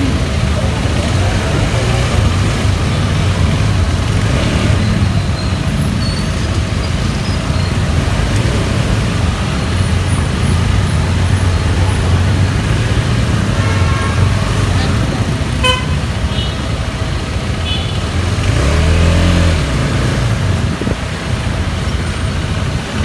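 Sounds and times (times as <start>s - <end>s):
motorcycle engine rumble: 0.0s - 23.0s
traffic road noise: 0.0s - 23.0s.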